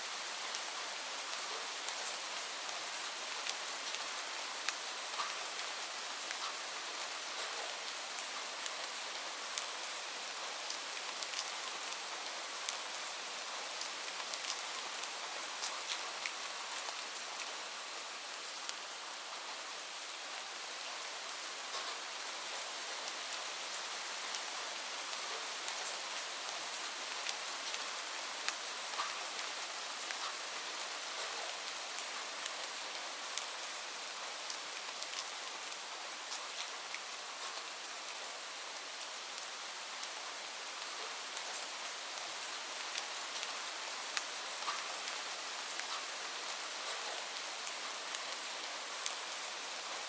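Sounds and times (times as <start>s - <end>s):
rain falling on leaves: 0.0s - 50.0s.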